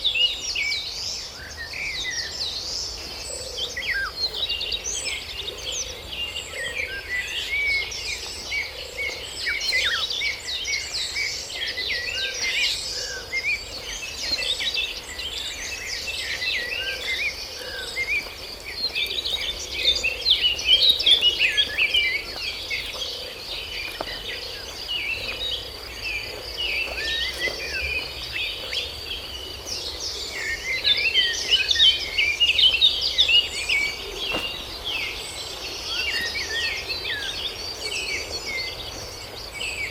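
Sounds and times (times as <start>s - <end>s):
birds chirping and calling: 0.0s - 39.9s
high insect drone: 4.7s - 39.9s.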